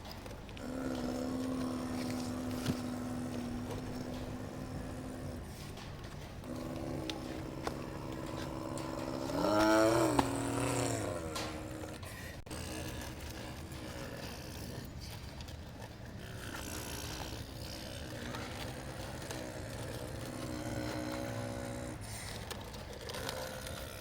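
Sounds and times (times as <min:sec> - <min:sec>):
model excavator motor whining: 0:00.0 - 0:24.0.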